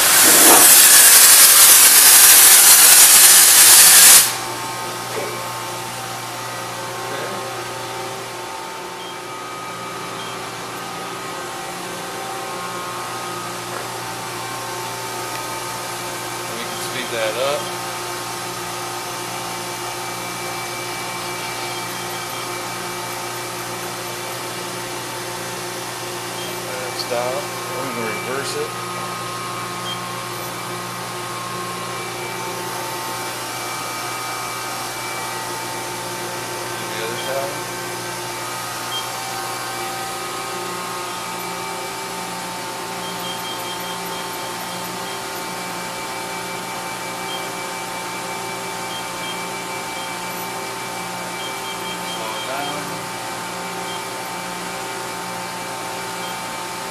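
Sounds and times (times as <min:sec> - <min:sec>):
lathe machine humming: 0:00.0 - 0:56.9.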